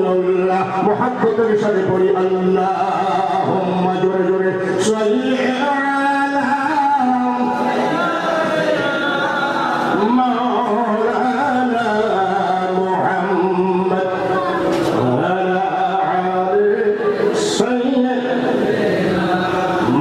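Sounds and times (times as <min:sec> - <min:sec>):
man chanting over loudspeaker: 0:00.0 - 0:20.0.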